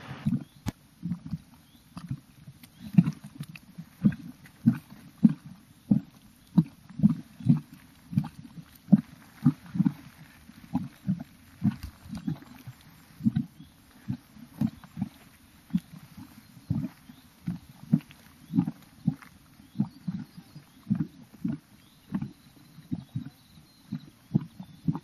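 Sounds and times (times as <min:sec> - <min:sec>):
mud pool bubbling: 0:00.0 - 0:25.0.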